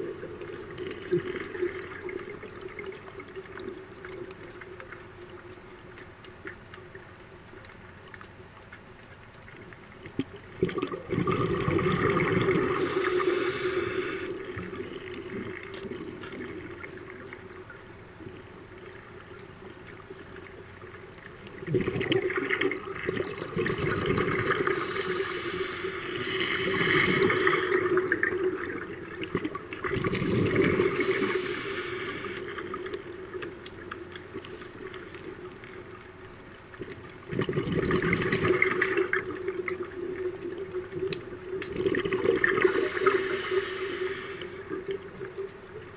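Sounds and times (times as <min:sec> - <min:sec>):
underwater exhaust bubbles: 0:00.0 - 0:45.9
underwater water noise: 0:00.0 - 0:45.9.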